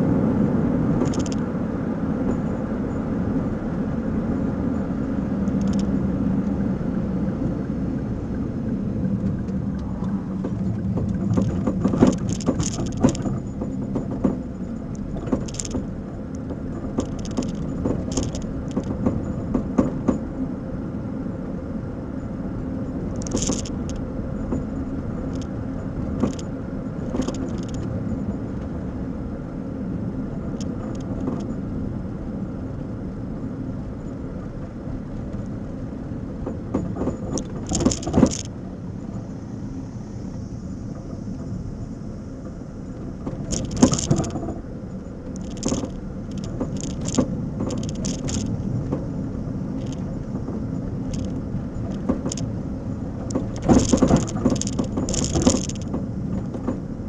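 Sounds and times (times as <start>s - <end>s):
car road rumble: 0.0s - 57.0s
suspension clunks and rattles: 0.0s - 57.0s.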